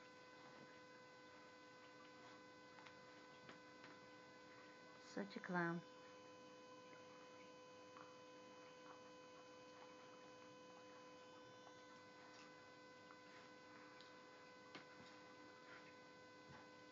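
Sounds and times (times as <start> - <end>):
faint electrical hum: 0.0 - 16.9.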